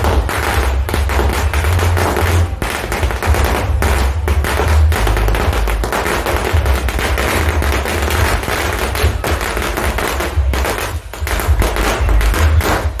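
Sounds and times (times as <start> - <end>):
firecrackers cracking: 0.0 - 13.0.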